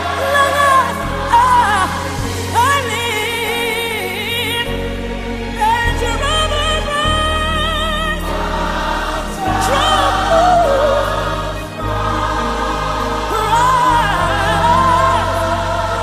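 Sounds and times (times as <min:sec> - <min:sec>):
steady bass line: 0:00.0 - 0:03.7, 0:04.6 - 0:16.0
choir singing: 0:00.0 - 0:16.0
lead voice singing: 0:00.0 - 0:16.0.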